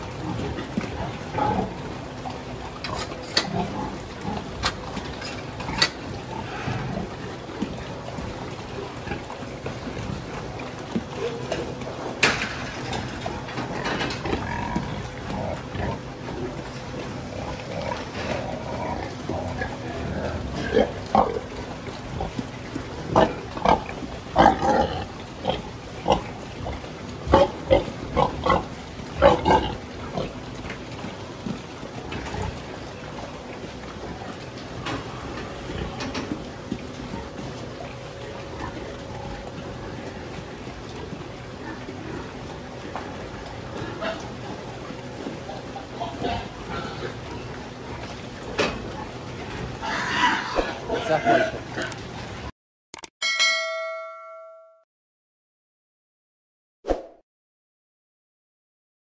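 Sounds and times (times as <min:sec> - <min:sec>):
pigs grunting: 0:00.0 - 0:52.2.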